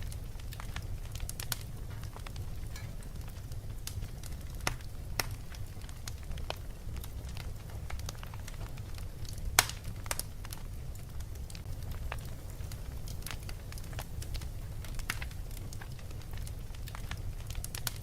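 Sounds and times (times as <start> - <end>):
steady low rumble: 0.0 - 17.4
fire crackling and popping: 0.0 - 18.0.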